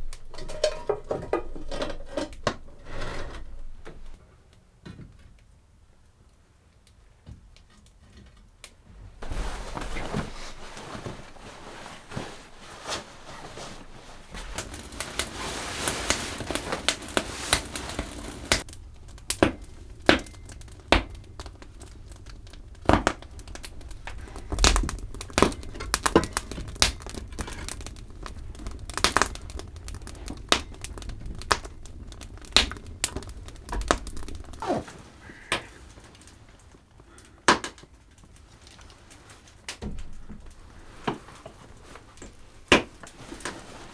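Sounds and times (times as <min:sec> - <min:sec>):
crinkling and rustling: 0:00.0 - 0:04.2, 0:06.8 - 0:43.9.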